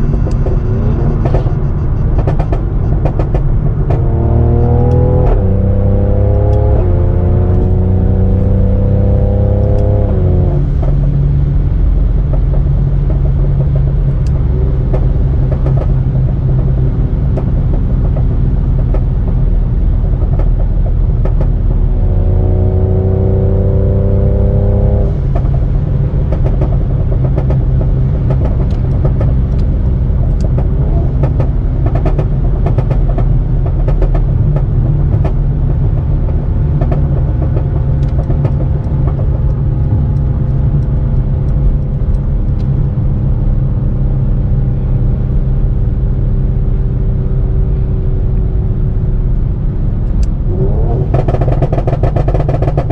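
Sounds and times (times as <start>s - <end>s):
car engine revving: 0.0s - 52.9s
exhaust crackles and pops: 0.0s - 52.9s.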